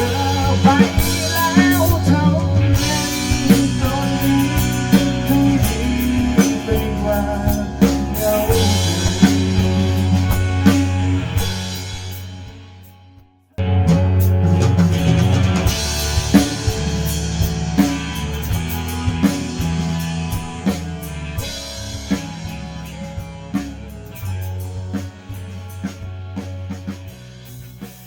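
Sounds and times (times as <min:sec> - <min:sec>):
bass guitar: 0:00.0 - 0:28.0
drum kit: 0:00.0 - 0:28.0
electric guitar: 0:00.0 - 0:28.0.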